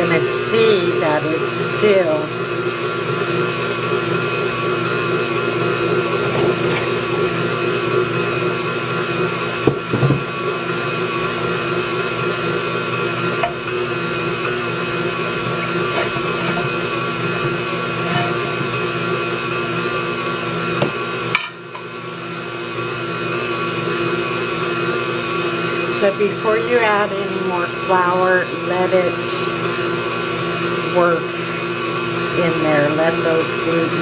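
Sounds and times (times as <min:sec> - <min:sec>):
stand mixer running: 0:00.0 - 0:34.0.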